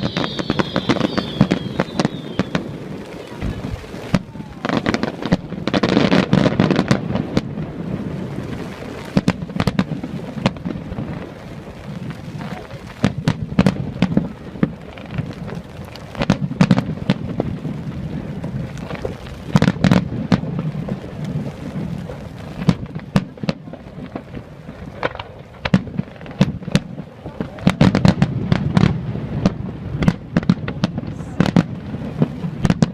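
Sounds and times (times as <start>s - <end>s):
fireworks bangs: 0.0s - 32.9s
fireworks crackling rumbles: 0.0s - 32.9s.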